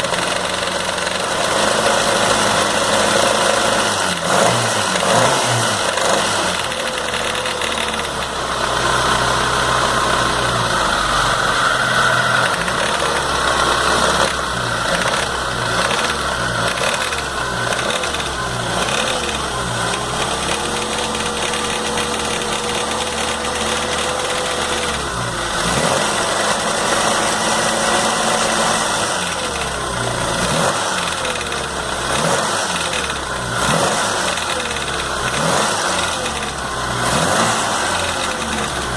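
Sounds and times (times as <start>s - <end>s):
car engine revving: 0.0s - 38.9s
engine rattle: 0.0s - 38.9s.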